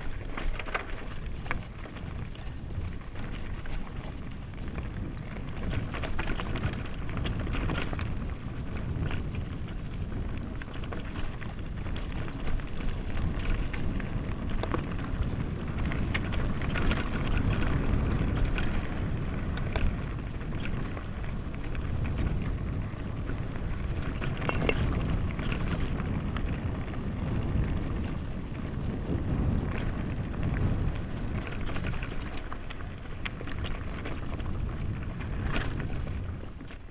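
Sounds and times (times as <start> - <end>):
bike clicks and rattles: 0.0 - 36.9
wind rumbling on microphone: 0.0 - 36.9.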